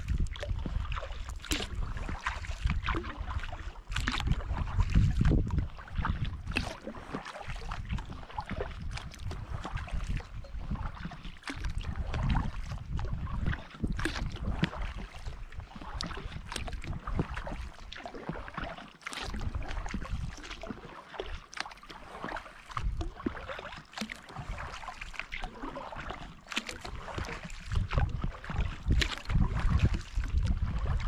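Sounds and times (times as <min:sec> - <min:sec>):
wind rumbling on microphone: 0:00.0 - 0:18.0, 0:19.2 - 0:20.8, 0:22.0 - 0:23.7, 0:24.3 - 0:25.2, 0:25.8 - 0:31.0
paddle splashing water: 0:00.0 - 0:31.0.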